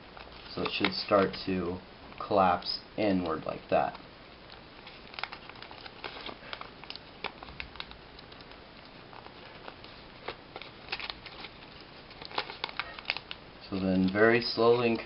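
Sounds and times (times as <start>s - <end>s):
paper crackling and crinkling: 0.0s - 15.0s.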